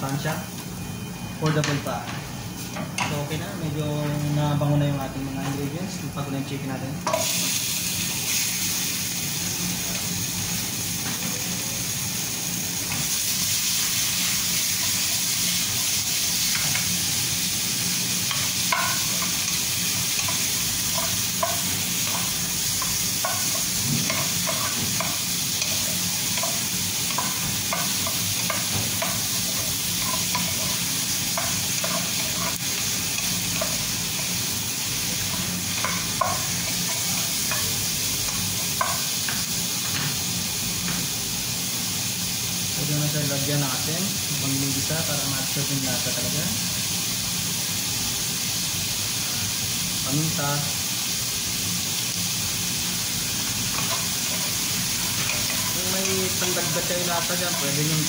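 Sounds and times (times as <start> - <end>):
chicken sizzling in frying pan: 0.0 - 58.0.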